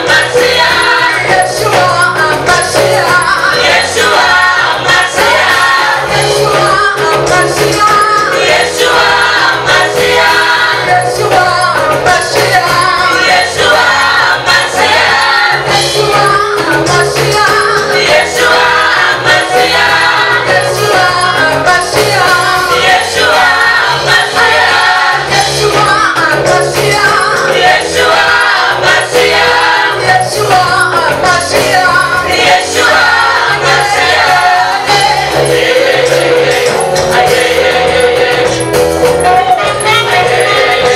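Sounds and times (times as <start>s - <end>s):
band with bass and beat: 0.0s - 40.9s
choir singing gospel: 0.0s - 40.9s.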